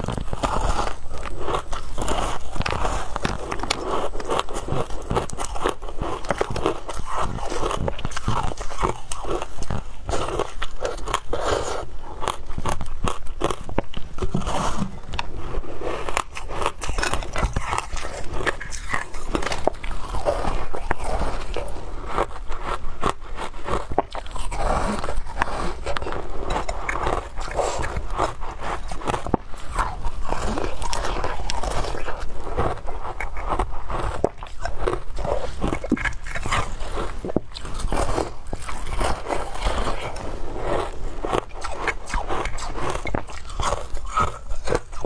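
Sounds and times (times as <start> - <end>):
crunching and chewing ice: 0.0 - 45.0.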